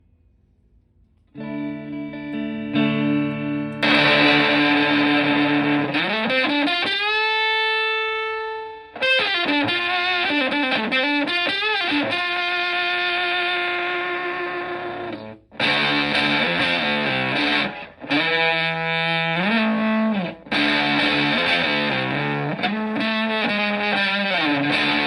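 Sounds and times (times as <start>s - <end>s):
fuzzed electric guitar: 1.3s - 25.0s.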